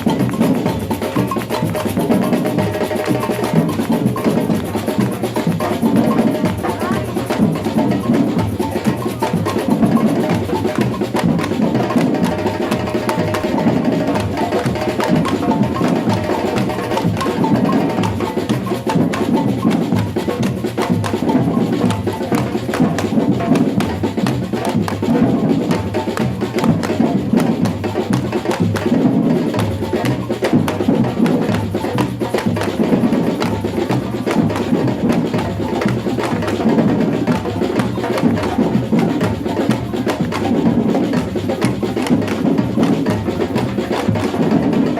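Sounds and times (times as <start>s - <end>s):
samba drum group playing: 0.0s - 44.9s.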